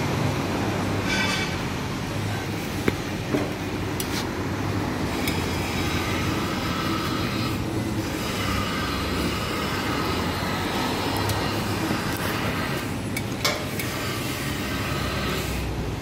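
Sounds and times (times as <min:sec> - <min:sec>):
mechanical drone with low hum: 0:00.0 - 0:16.0.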